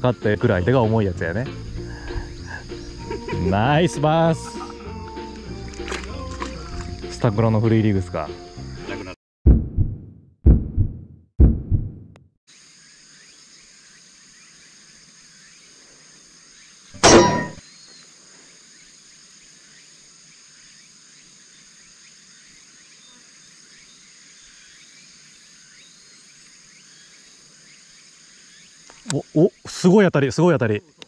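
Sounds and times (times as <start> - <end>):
insects chirping: 0.0 - 9.2, 12.5 - 31.0.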